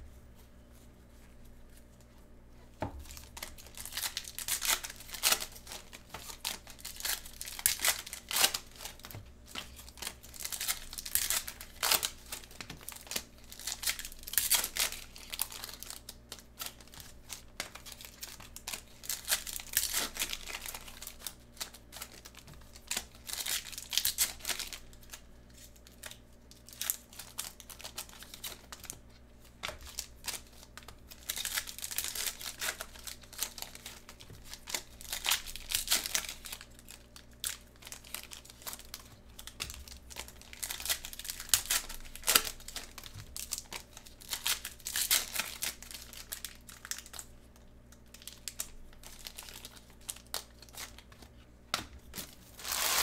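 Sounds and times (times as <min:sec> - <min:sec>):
plastic wrapping crinkling and tearing: 0:03.0 - 0:51.3, 0:52.0 - 0:53.0.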